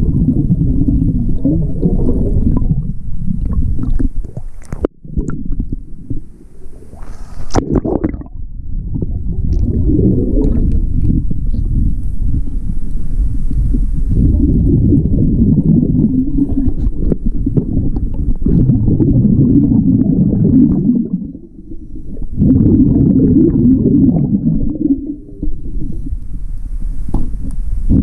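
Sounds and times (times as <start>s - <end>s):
underwater exhaust bubbles: 0.0s - 28.0s.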